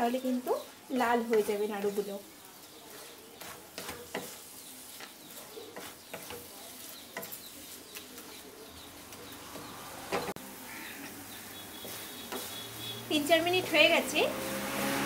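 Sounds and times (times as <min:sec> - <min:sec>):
faint sizzle: 0:00.0 - 0:14.6
wooden spatula scraping pan: 0:00.2 - 0:14.6.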